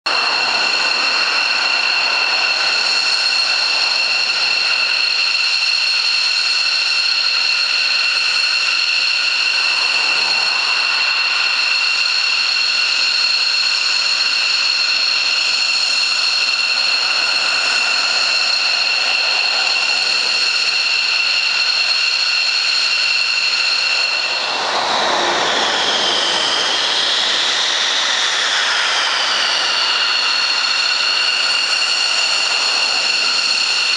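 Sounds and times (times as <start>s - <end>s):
high-pitched jet engine whine: 0.0s - 33.9s.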